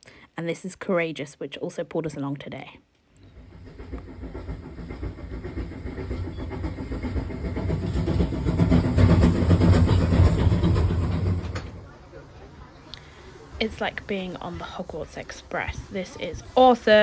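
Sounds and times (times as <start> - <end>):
steam train rumbling on rails: 3.2 - 17.0.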